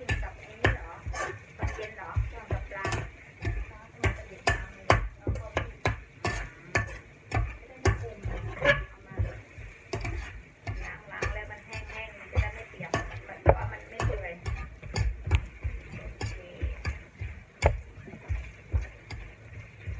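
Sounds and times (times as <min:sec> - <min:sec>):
metal spatula scraping a wok: 0:00.0 - 0:19.7.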